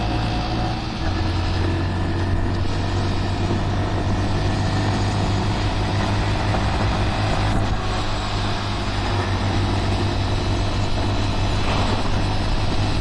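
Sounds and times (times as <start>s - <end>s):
small motorcycle engine running: 0.0s - 13.0s
wind noise: 1.0s - 13.0s.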